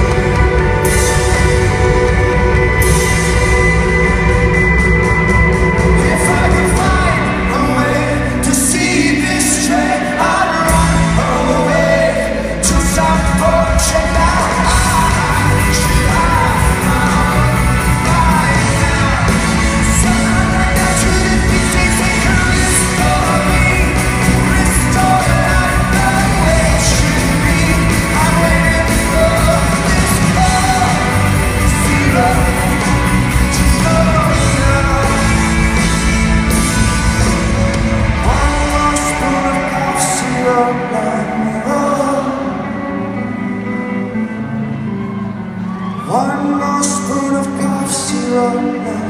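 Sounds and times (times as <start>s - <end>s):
crowd yelling: 0.0s - 49.0s
live rock band with singer: 0.0s - 49.0s.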